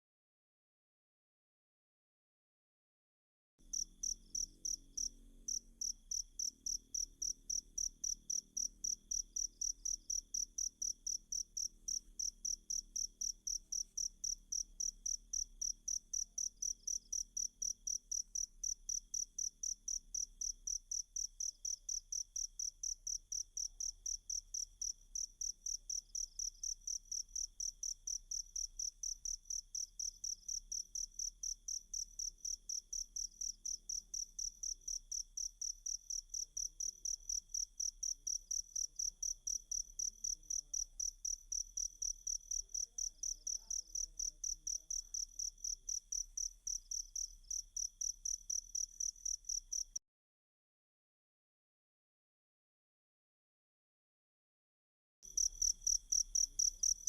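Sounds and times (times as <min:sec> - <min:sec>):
cricket chirping: 0:03.6 - 0:50.0, 0:55.3 - 0:57.0.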